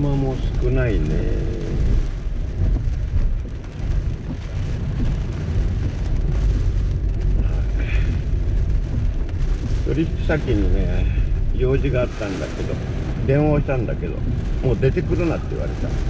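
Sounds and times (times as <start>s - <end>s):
van engine and road rumble: 0.0s - 16.0s
wind and rain buffeting vehicle: 0.0s - 16.0s.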